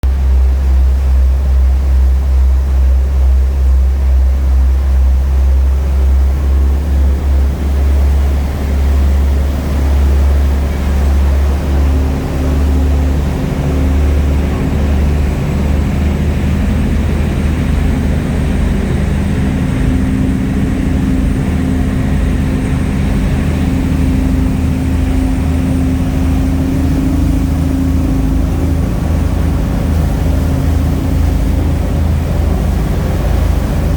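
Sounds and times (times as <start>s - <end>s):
ferry engine rumbling: 0.0s - 33.9s.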